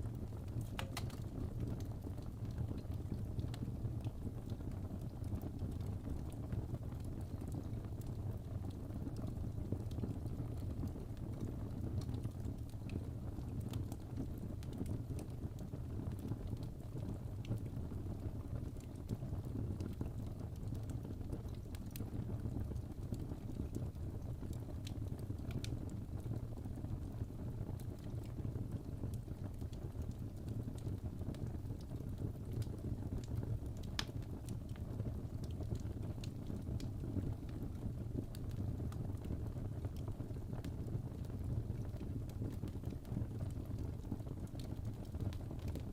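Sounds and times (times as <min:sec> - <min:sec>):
fire crackling and popping: 0:00.0 - 0:45.9
low rumble of fire: 0:00.0 - 0:45.9.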